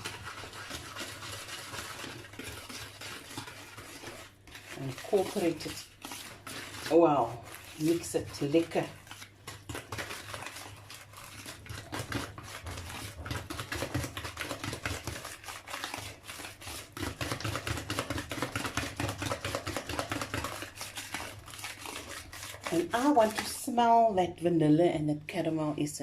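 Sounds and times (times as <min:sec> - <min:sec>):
utensil stirring batter in bowl: 0:00.0 - 0:26.0.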